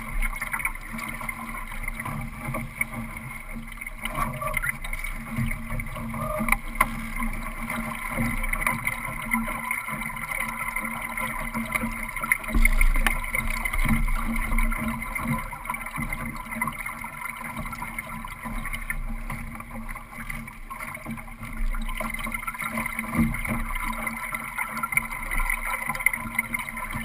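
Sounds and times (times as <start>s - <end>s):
water rushing along hull: 0.0s - 27.0s.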